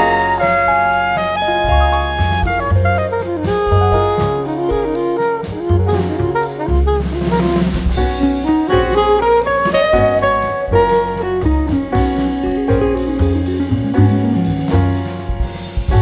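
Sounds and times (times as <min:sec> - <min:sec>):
music with drum beat: 0:00.0 - 0:16.0.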